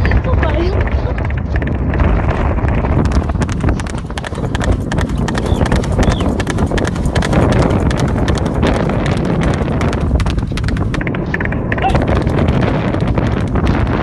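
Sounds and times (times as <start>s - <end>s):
horse hooves clip-clopping on dirt: 0.0s - 14.0s
wind rumble on microphone: 0.0s - 14.0s.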